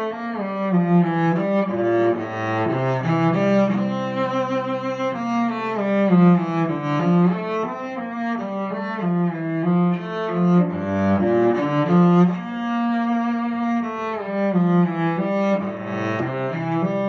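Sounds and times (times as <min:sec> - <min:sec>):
solo bowed cello: 0:00.0 - 0:17.0.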